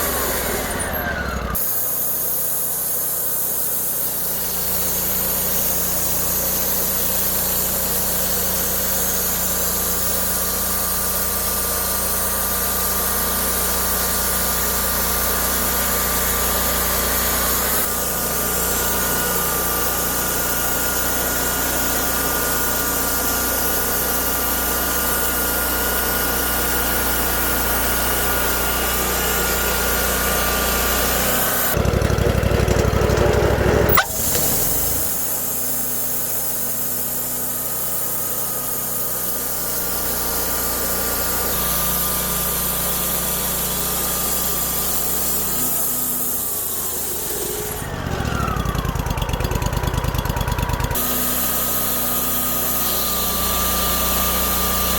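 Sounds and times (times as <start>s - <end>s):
band sawmill running: 0.0s - 54.9s.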